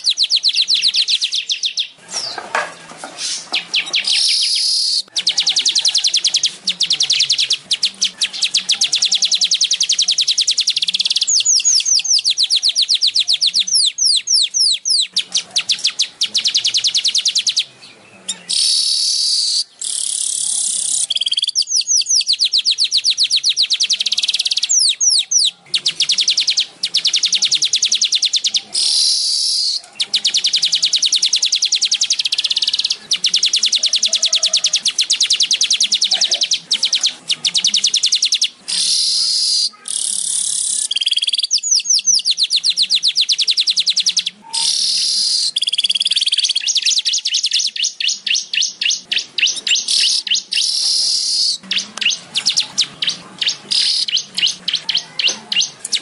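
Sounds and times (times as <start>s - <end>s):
bird singing fast chattering trill: 0.0s - 56.0s.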